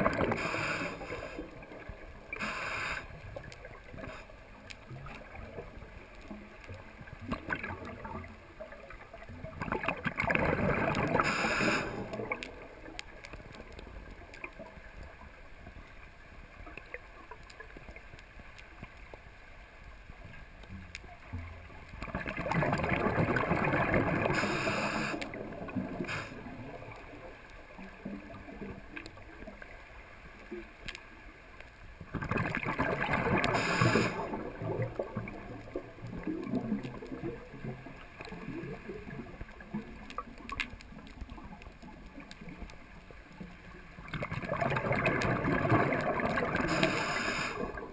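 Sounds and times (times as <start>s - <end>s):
faint underwater clicking: 0.0s - 47.9s.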